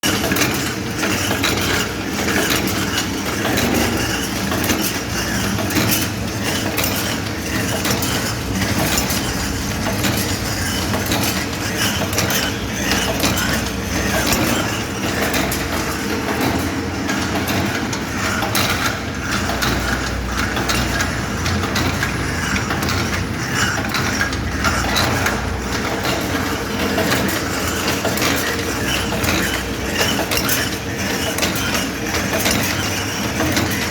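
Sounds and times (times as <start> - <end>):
low machine hum: 0.0 - 33.9
machine clattering: 0.0 - 33.9.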